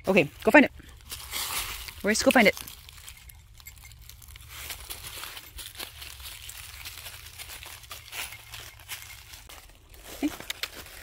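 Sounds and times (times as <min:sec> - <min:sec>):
dry leaves crackling and rustling: 0:00.0 - 0:11.0.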